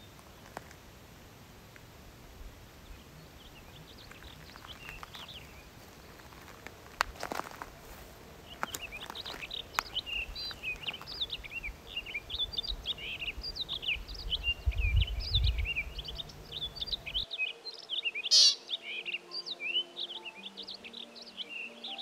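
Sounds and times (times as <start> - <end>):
songbirds singing: 1.6 - 22.0.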